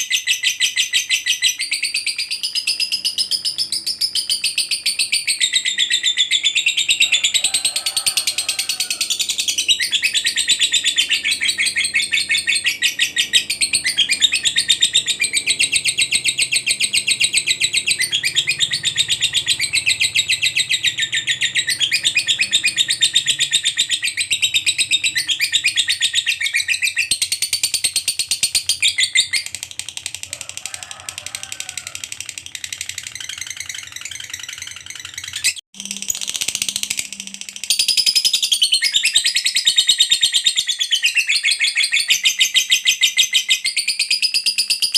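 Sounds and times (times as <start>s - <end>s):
lovebird chattering trill: 0.0s - 44.9s.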